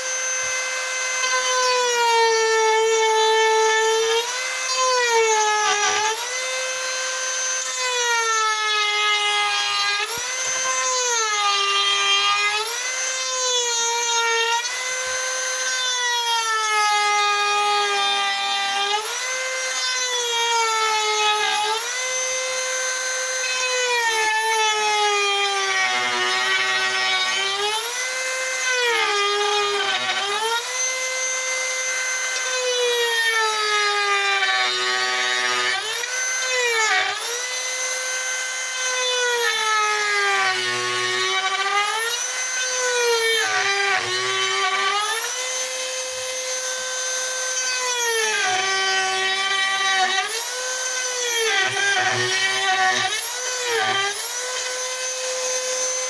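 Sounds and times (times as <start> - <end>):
rasp of wood being cut: 0.0 - 56.0
rotary tool motor whine: 0.0 - 56.0.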